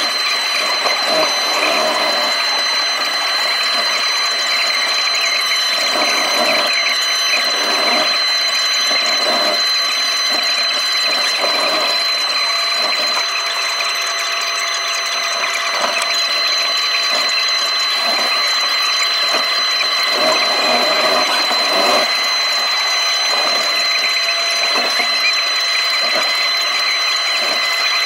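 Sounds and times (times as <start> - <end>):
hydraulic whine: 0.0 - 28.0.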